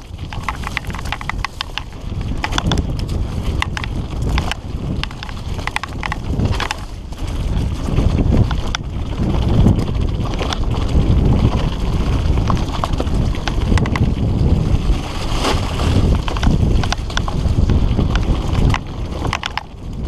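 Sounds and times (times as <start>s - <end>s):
bike rattles and knocks: 0.0s - 20.0s
tyres running over dirt: 0.0s - 20.0s
wind rumble on microphone: 0.0s - 20.0s.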